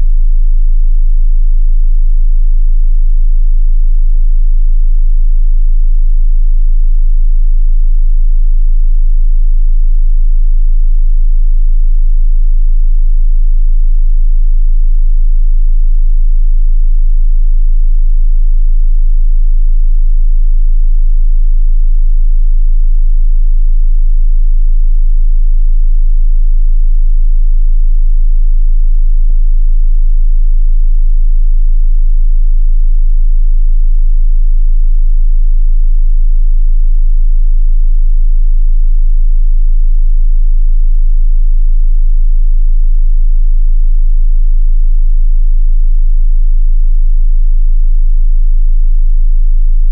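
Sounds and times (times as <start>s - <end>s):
deep bass sine tone: 0.0s - 49.9s.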